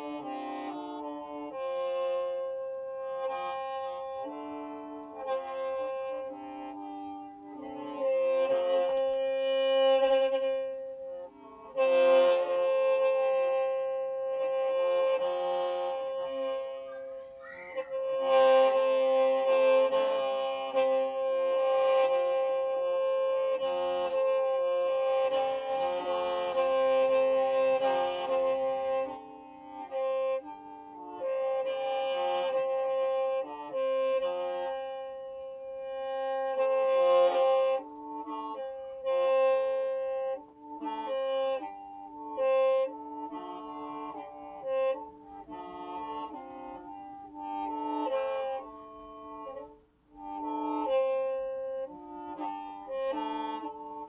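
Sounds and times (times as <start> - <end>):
free-reed mouth organ playing: 0.0 - 54.0.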